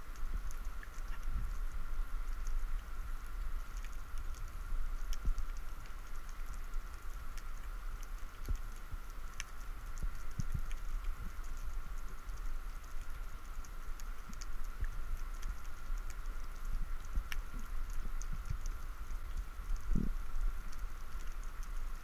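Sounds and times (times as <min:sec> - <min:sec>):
steady low rumble: 0:00.0 - 0:22.0
underwater clicks and crackle: 0:00.0 - 0:22.0.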